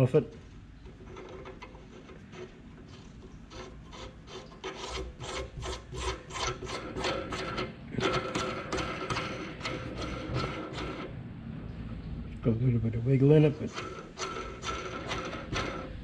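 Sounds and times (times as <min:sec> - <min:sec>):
metal nut rasping on thread: 0:00.8 - 0:11.2, 0:13.4 - 0:16.0.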